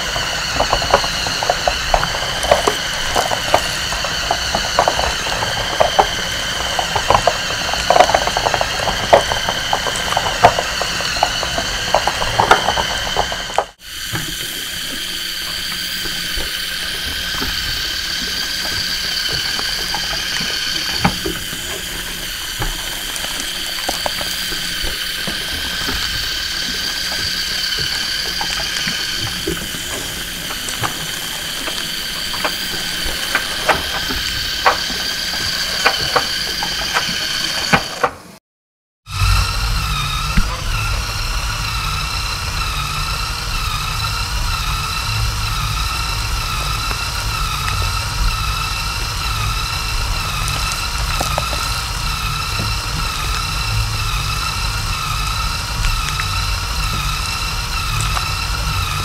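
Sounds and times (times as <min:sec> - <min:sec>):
electric motors whining: 0:00.0 - 0:38.4, 0:39.1 - 0:59.0.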